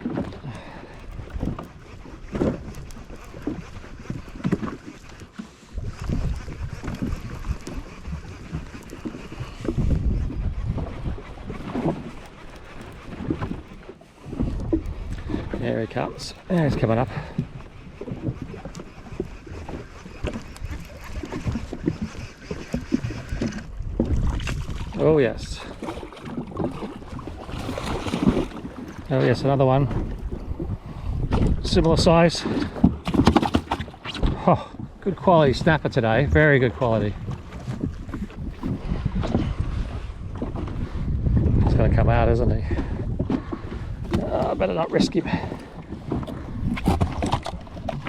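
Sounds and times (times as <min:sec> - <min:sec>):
water slapping against hull: 0:00.0 - 0:48.0
wind buffeting microphone: 0:00.0 - 0:48.0.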